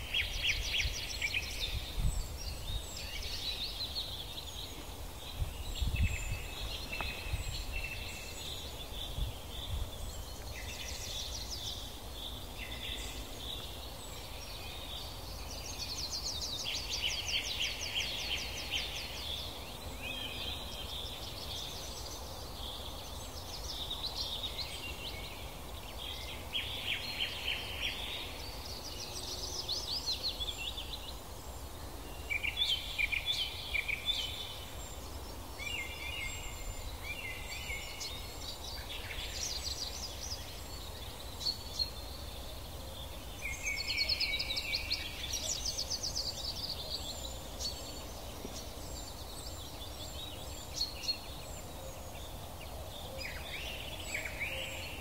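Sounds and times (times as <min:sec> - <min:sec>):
low background noise: 0:00.0 - 0:55.0
songbirds trilling and chirping: 0:00.0 - 0:55.0.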